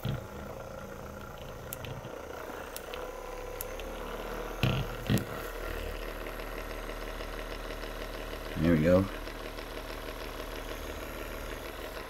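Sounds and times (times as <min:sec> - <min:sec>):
massage gun motor hum: 0:00.0 - 0:12.0.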